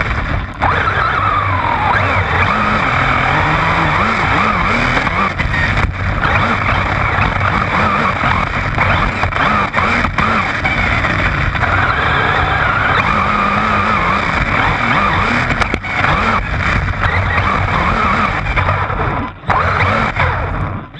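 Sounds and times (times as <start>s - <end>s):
road and wind noise: 0.0s - 20.9s
truck engine running: 0.0s - 20.9s.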